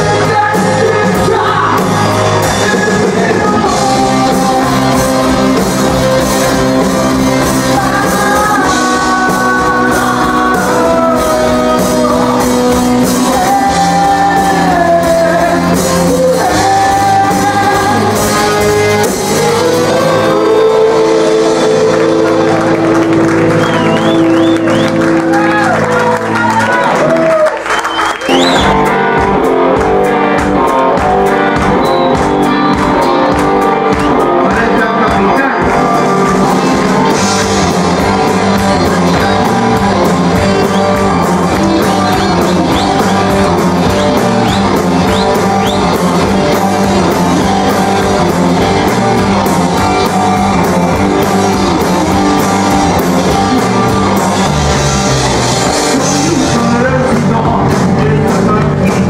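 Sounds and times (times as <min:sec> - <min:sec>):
person singing: 0:00.0 - 0:27.5, 0:28.3 - 0:59.0
rock band playing live: 0:00.0 - 0:59.0.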